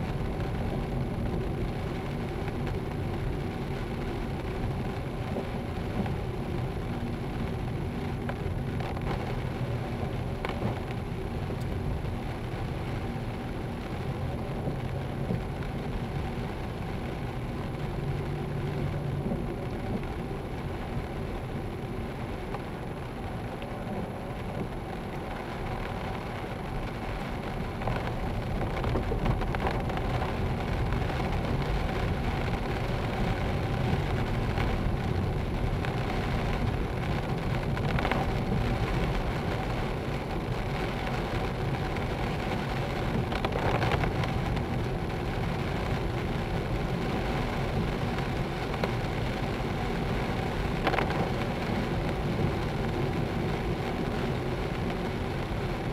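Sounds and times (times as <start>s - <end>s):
car engine hum: 0.0s - 55.9s
raindrops tapping on windscreen: 0.0s - 55.9s
tyre noise on wet road: 0.0s - 55.9s.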